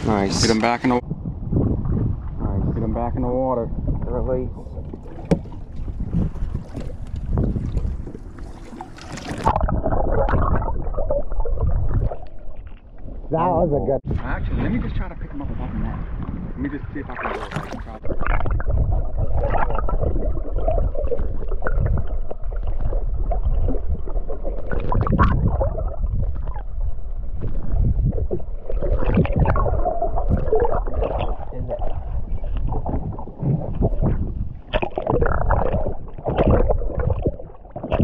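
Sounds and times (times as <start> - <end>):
underwater gurgling and sloshing: 0.0 - 38.0.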